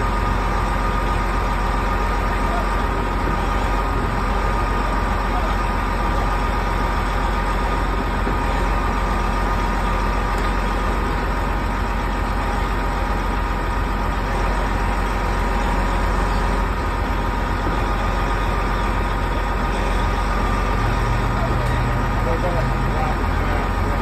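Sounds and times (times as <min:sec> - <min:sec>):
diesel engines rumbling under load: 0:00.0 - 0:24.0.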